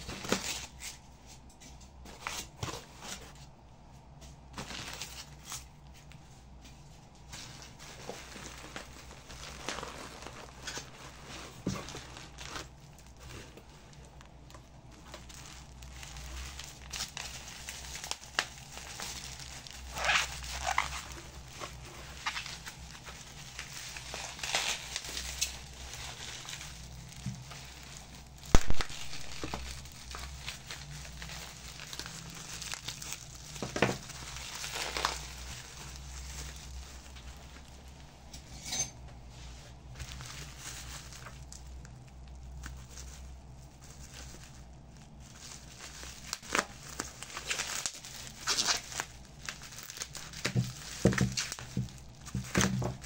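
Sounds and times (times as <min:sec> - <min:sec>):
packaging rustling and crinkling: 0:00.0 - 0:53.0.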